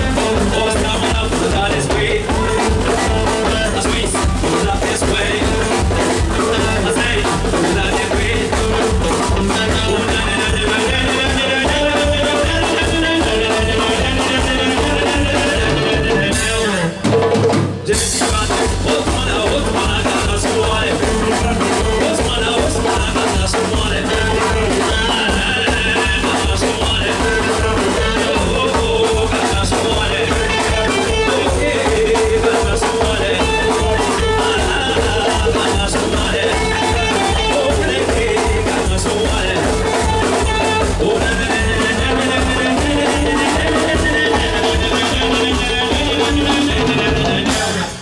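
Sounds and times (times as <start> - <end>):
drum kit: 0.0 - 48.0
guitar: 0.0 - 48.0
hand drums: 0.0 - 48.0
person singing: 0.0 - 48.0.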